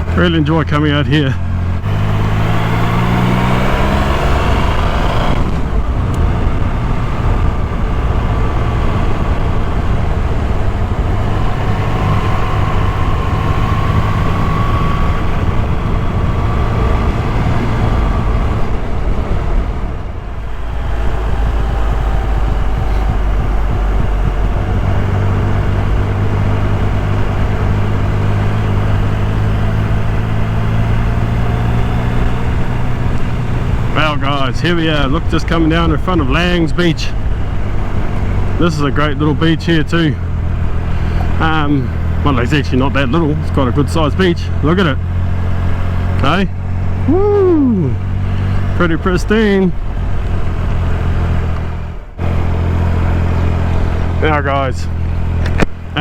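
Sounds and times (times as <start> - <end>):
heavy wind rush: 0.0 - 56.0
motorcycle engine running: 0.0 - 56.0.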